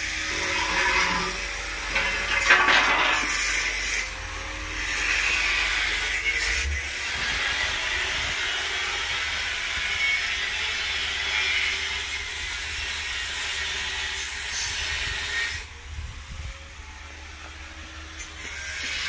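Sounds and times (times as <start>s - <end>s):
angle grinder grinding steel: 0.0s - 15.7s, 17.5s - 19.0s.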